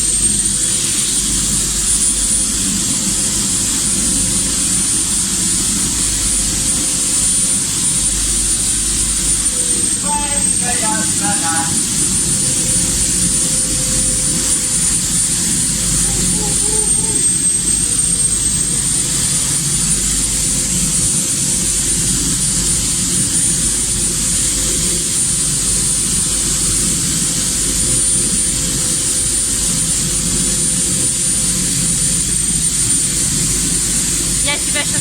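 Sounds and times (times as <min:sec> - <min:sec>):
workshop machine whining: 0:00.0 - 0:35.0.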